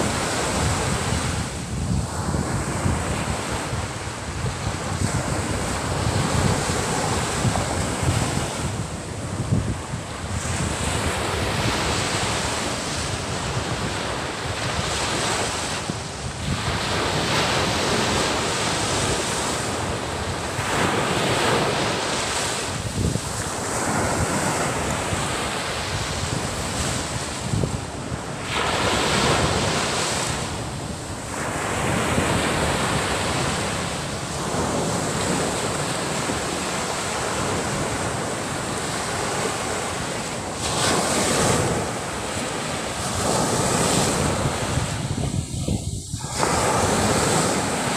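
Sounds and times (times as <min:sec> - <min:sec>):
sea waves breaking on beach: 0:00.0 - 0:47.9.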